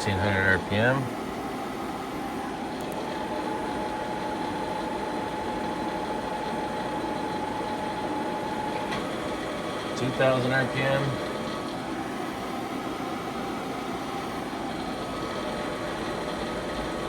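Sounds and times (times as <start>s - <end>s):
lathe spindle whine: 0.0s - 17.0s
machine hum: 0.0s - 17.0s.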